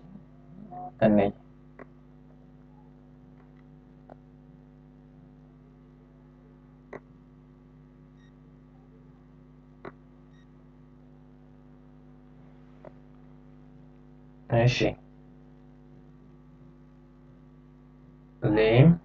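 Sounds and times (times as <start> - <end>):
low electrical mains hum: 0.0 - 19.0.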